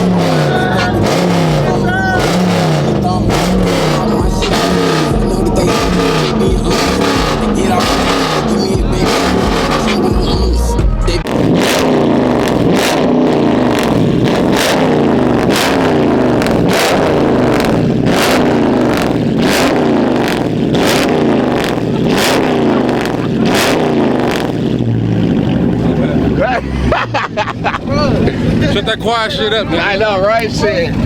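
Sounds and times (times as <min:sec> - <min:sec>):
car engine revving: 0:00.0 - 0:31.0
exhaust cracks: 0:00.0 - 0:31.0.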